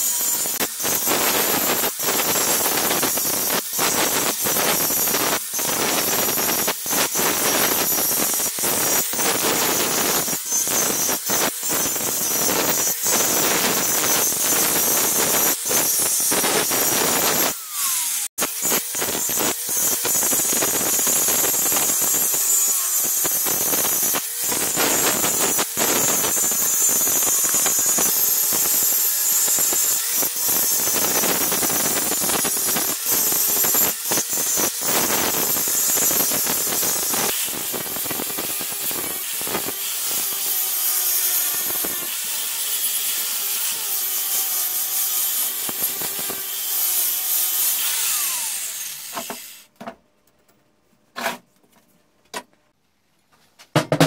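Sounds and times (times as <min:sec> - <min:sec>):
angle grinder grinding steel: 0:00.0 - 0:49.7.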